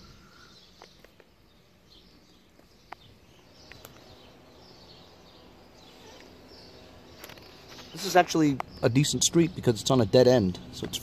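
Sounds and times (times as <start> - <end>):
birds chirping: 0.0 - 11.0
faint street ambience: 0.0 - 11.0.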